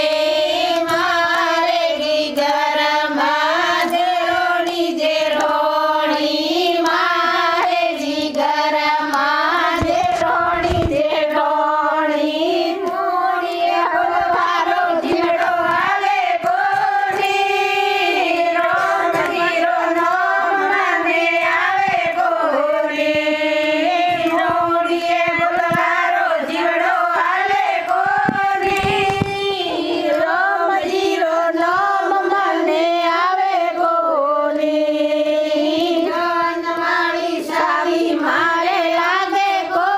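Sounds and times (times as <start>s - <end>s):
hand-clapping: 0.0s - 32.4s
women singing devotional song: 0.0s - 39.9s.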